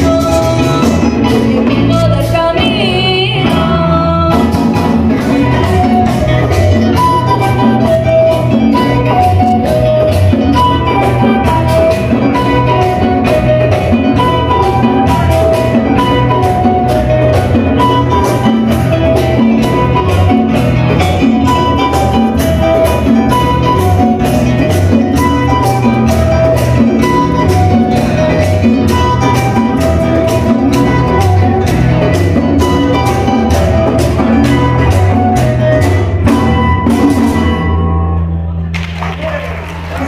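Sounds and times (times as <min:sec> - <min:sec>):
held melody notes: 0:00.0 - 0:38.6
moving bass line: 0:00.0 - 0:38.7
conga drums: 0:00.0 - 0:40.0.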